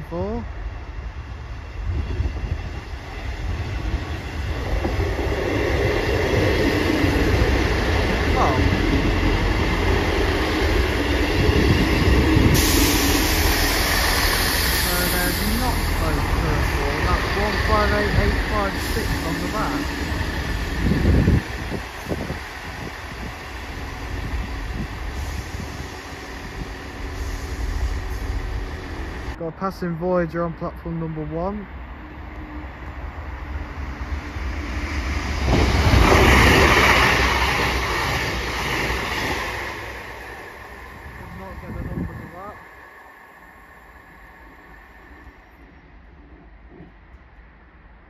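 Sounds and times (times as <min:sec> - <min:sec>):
diesel train running: 0:00.0 - 0:48.0.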